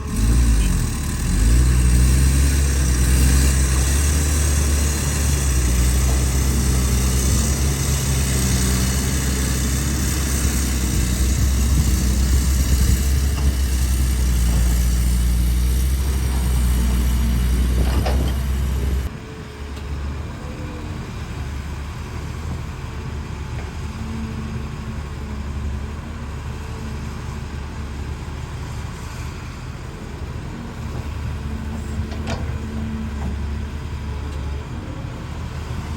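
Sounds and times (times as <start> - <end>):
excavator engine running: 0.0 - 35.9.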